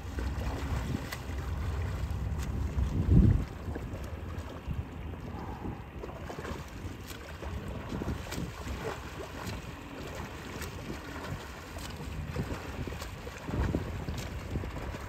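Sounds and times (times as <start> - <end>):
swimmer's arm strokes splashing: 0.0 - 5.4, 6.0 - 15.0
wind rumble on microphone: 0.0 - 15.0.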